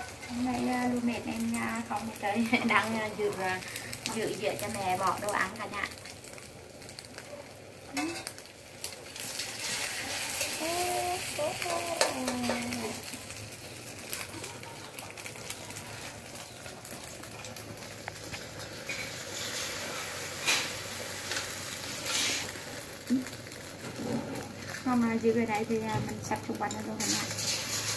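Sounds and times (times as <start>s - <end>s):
food sizzling in a wok: 0.0s - 27.9s.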